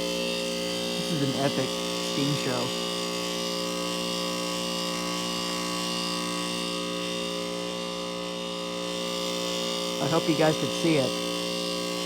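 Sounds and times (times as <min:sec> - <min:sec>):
heat pump electrical buzzing hum: 0:00.0 - 0:12.0.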